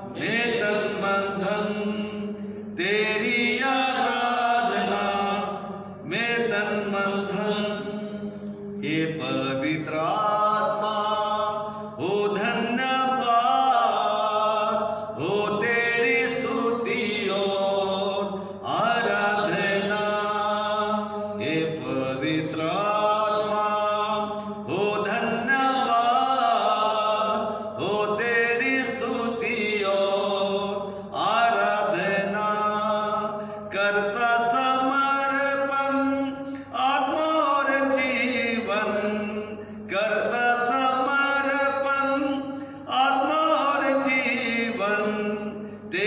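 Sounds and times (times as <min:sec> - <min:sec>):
man singing a hymn: 0:00.0 - 0:46.0.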